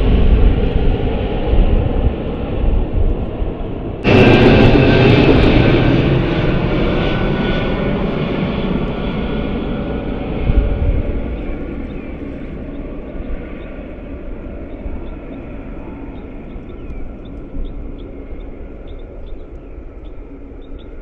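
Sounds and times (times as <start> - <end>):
jet engines roaring with high whine: 0.0 - 21.0.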